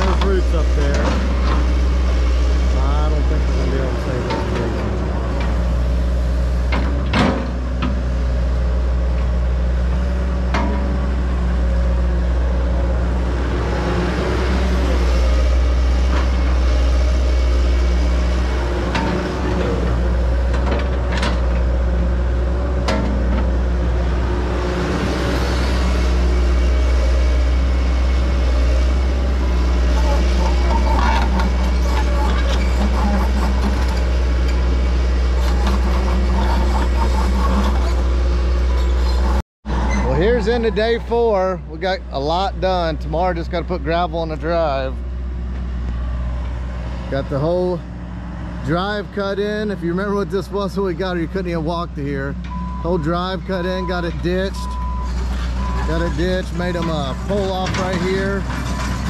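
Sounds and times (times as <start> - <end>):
diesel excavator engine drone: 0.0 - 59.0.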